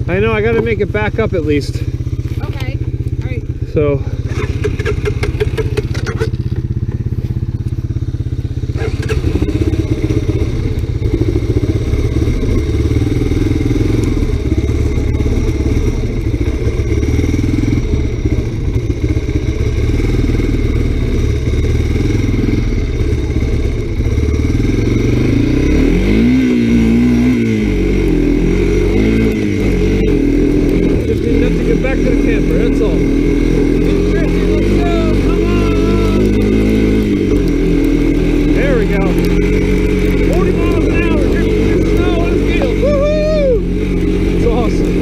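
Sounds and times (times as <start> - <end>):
three-wheeler engine running: 0.0 - 45.0.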